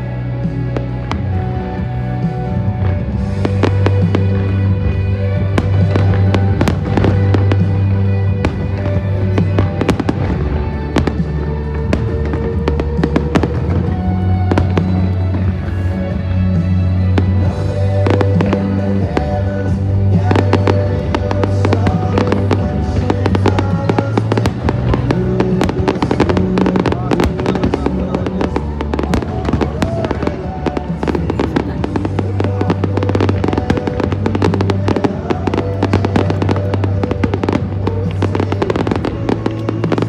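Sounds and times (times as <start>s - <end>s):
fireworks bangs and crackling: 0.0s - 40.0s
music with steady bass: 0.0s - 40.0s.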